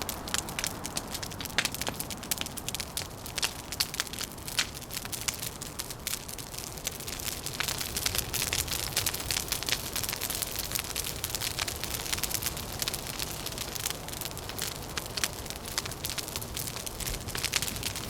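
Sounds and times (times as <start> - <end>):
low rumble of wind: 0.0 - 18.0
wood fire crackling: 0.0 - 18.0.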